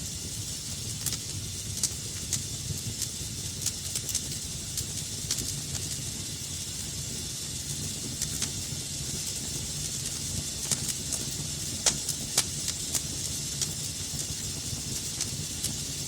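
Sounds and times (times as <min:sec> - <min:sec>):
fire crackles and pops: 0:00.0 - 0:16.0
wood fire hissing rush: 0:00.0 - 0:16.0.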